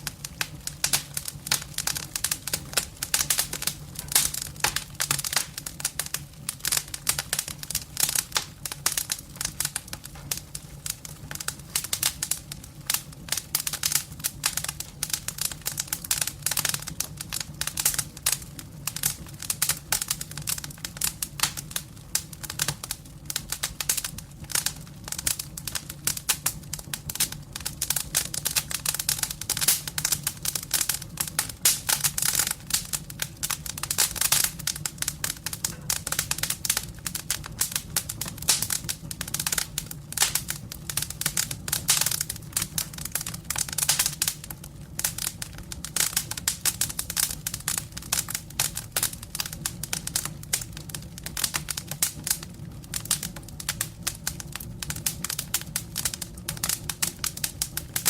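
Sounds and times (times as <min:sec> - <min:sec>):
faint low fire rumble: 0:00.0 - 0:58.0
firewood crackling and popping: 0:00.0 - 0:58.0.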